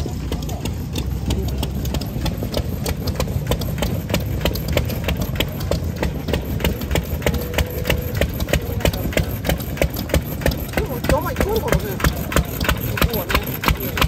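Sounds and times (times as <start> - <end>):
stationary engine idling: 0.0 - 14.0.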